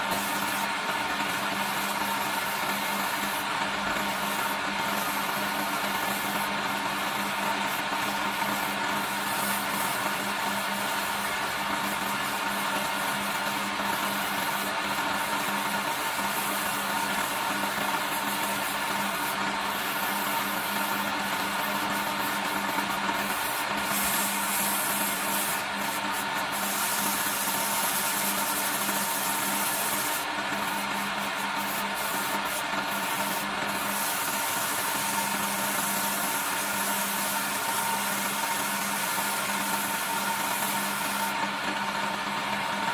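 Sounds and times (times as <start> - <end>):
sandpaper rubbing spinning wood: 0.0 - 42.9.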